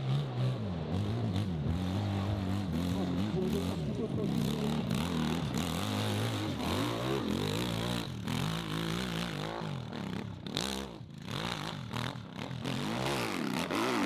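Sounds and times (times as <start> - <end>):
motorcycle engine revving hard: 0.0 - 14.0.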